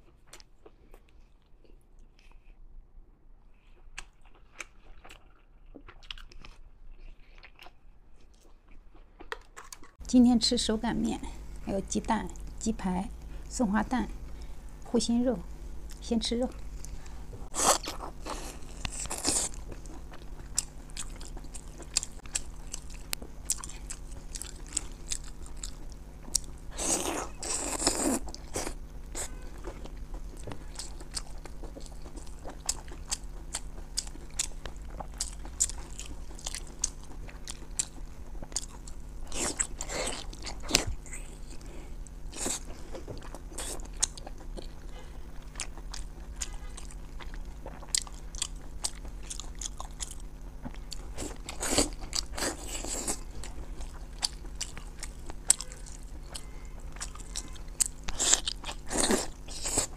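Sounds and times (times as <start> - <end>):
close chewing and biting: 3.6 - 10.0, 16.7 - 59.9.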